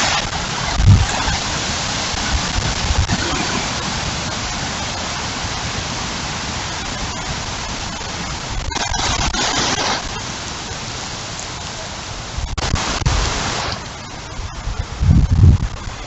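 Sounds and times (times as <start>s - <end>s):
heavy rain pouring: 0.0s - 16.0s
wind gusts buffeting microphone: 0.0s - 16.0s.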